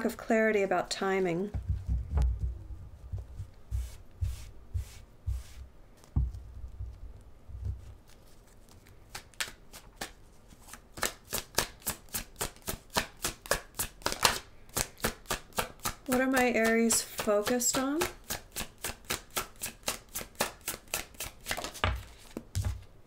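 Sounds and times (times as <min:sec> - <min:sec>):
cards being shuffled: 0:02.4 - 0:22.9.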